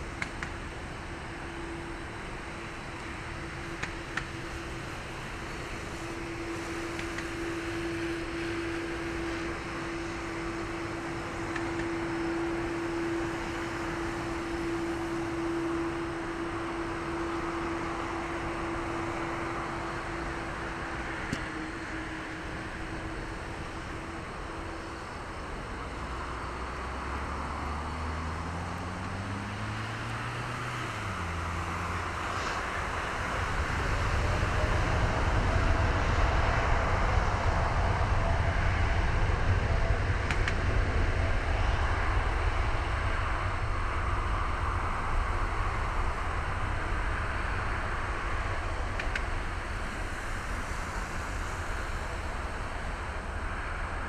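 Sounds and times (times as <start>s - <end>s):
jet engines spooling up: 0.0s - 27.2s, 27.9s - 54.0s.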